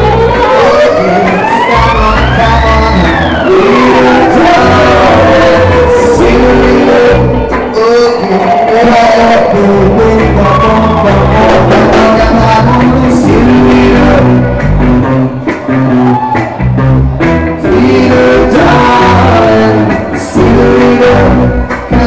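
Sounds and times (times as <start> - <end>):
person singing: 0.0 - 16.6, 17.2 - 22.0
live reggae band: 0.0 - 22.0.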